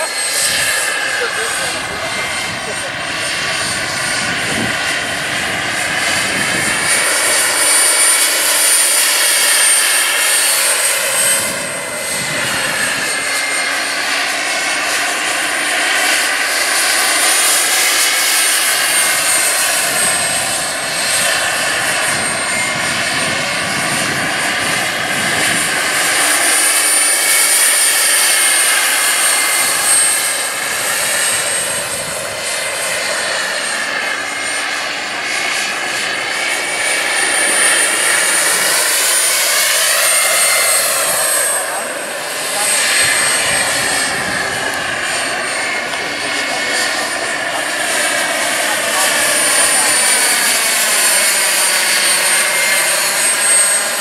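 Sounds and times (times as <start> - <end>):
helicopter rotor noise: 0.0 - 54.0
model helicopter turbine whine: 0.0 - 54.0.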